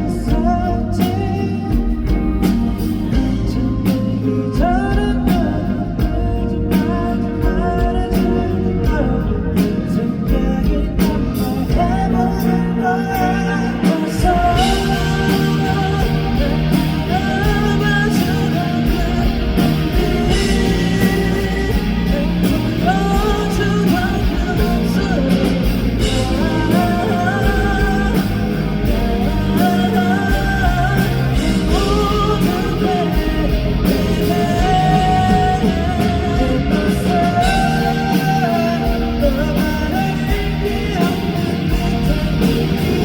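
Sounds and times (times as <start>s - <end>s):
lead vocal singing: 0.0s - 43.0s
live rock band playing: 0.0s - 43.0s.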